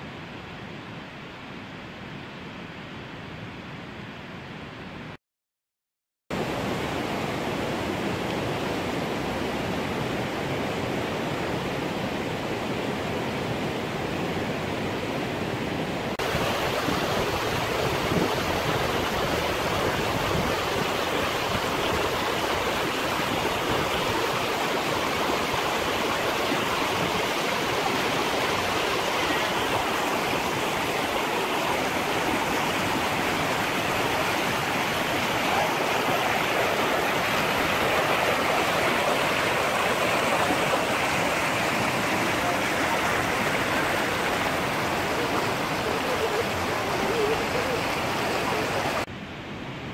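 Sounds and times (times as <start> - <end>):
waterfall roaring: 6.4 - 49.1.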